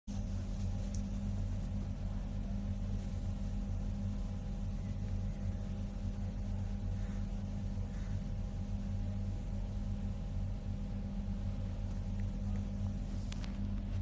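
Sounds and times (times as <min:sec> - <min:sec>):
low machine hum: 0:00.1 - 0:14.0.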